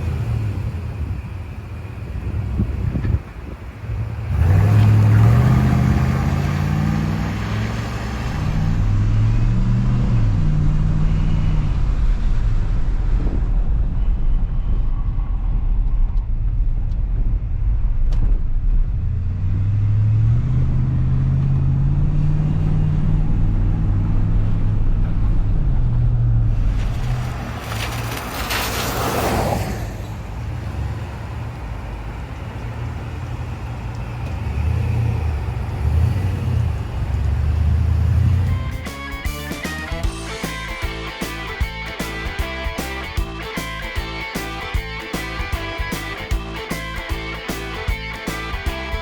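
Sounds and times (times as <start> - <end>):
vehicle engine running: 0.0 - 28.8, 30.1 - 49.0.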